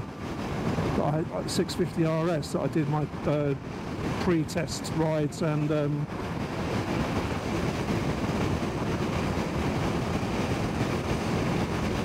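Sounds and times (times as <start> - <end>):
road noise: 0.0 - 12.0
wind rush: 0.0 - 12.0.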